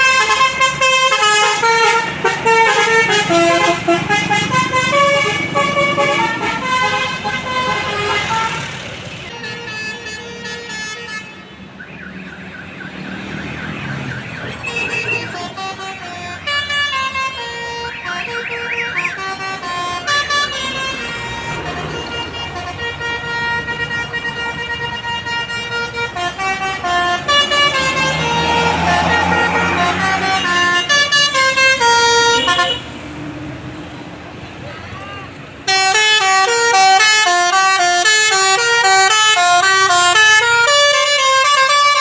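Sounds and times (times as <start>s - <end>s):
bus musical horn playing a tune: 0.0s - 11.8s, 14.6s - 33.0s, 35.6s - 42.0s.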